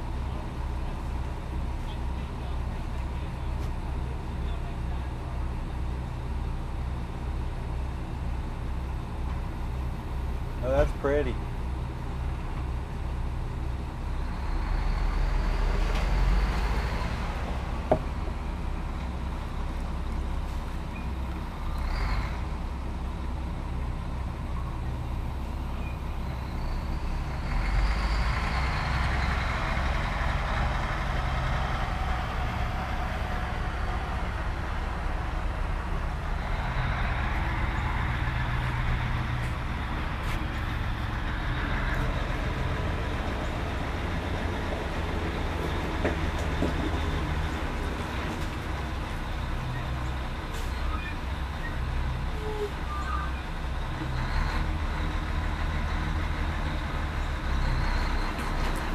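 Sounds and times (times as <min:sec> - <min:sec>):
diesel truck engines rumbling: 0:00.0 - 0:58.9.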